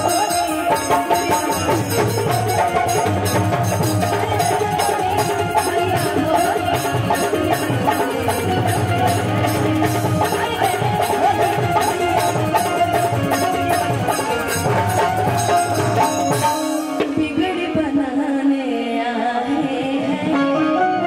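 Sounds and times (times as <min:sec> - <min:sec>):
band accompaniment: 0:00.0 - 0:18.2
drums: 0:00.0 - 0:18.4
woman singing: 0:00.0 - 0:21.0.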